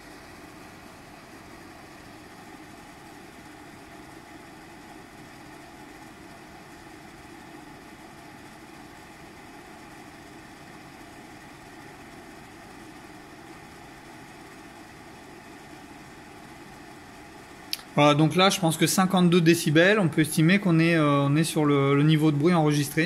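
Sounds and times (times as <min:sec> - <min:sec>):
extractor fan air rush: 0:00.0 - 0:23.0
fan motor hum: 0:00.0 - 0:23.0.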